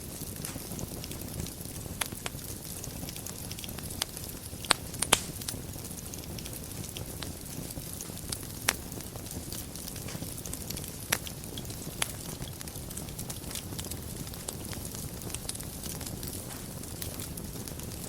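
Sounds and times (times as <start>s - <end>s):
fire crackling: 0.0s - 18.0s
fire rumbling: 0.0s - 18.0s
sharp fire pops: 0.0s - 18.0s.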